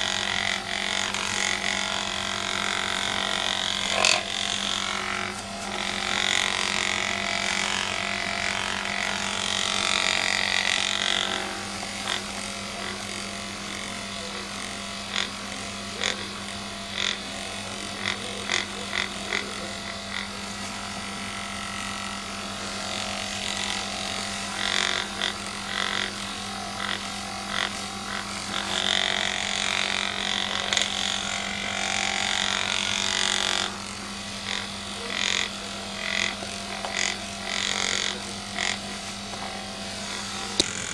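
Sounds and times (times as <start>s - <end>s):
vibrating massager buzzing: 0.0s - 40.9s.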